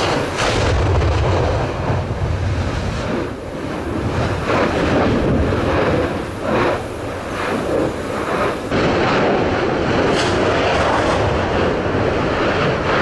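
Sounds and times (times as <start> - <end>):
sharp explosive bursts: 0.0 - 12.9
deep volcanic rumble: 0.0 - 13.0.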